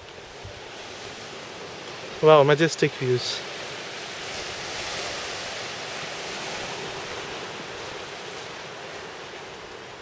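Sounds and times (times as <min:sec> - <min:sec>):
surf washing over rocks: 0:00.0 - 0:10.0.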